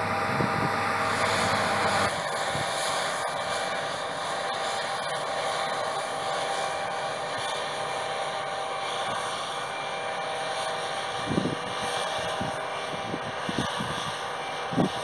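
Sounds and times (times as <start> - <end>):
faint whine: 0.0 - 14.6
combine harvester drone: 0.0 - 15.0.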